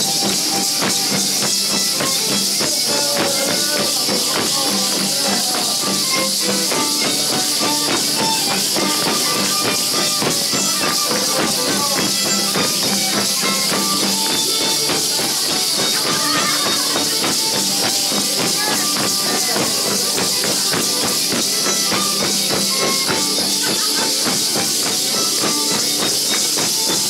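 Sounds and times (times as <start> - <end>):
steady beat: 0.0 - 27.0.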